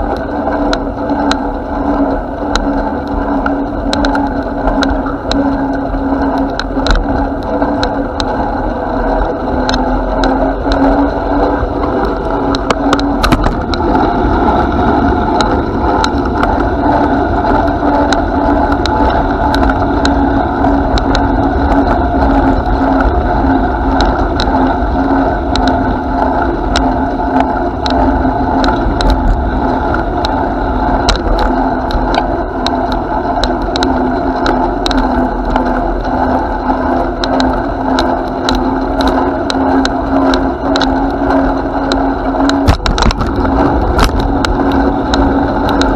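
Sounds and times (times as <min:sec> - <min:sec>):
bicycle tyres rolling: 0:00.0 - 0:45.9
constant hum: 0:00.0 - 0:45.9
wind: 0:00.0 - 0:45.9
bike rattling clicks: 0:02.4 - 0:45.9.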